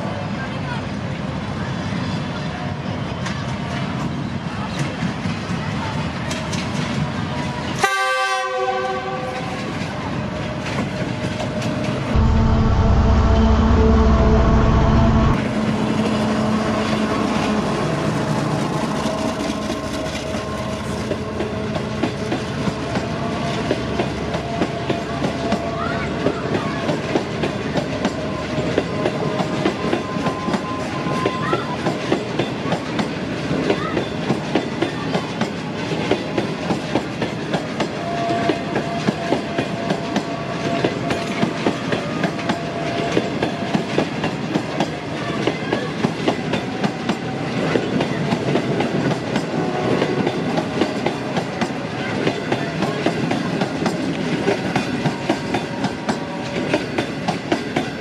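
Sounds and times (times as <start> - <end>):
train rumble: 0.0 - 58.0
wheels clickety-clack: 3.1 - 7.9, 8.9 - 12.1, 18.2 - 58.0.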